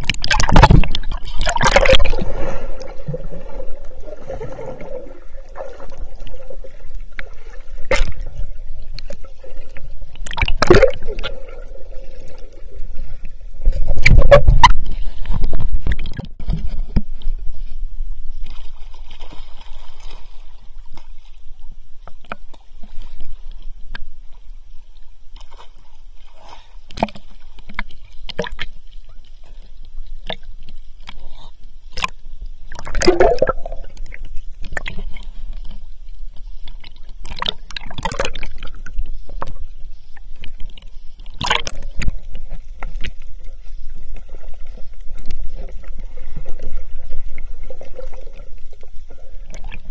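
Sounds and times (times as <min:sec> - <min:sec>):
water sloshing and splashing: 0:00.0 - 0:49.9.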